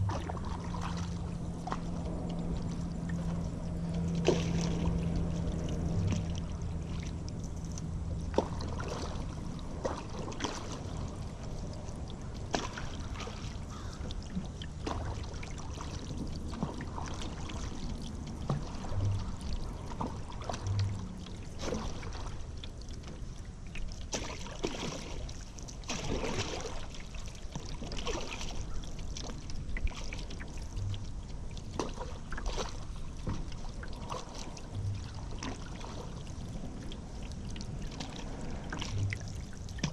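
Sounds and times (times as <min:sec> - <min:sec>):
paddle strokes splashing: 0:00.0 - 0:39.9
wash of moving water: 0:00.0 - 0:39.9.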